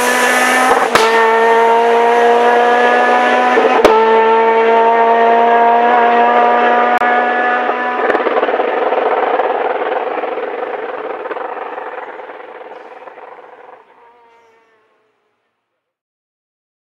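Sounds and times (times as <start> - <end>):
rally car engine buzzing: 0.0 - 15.3.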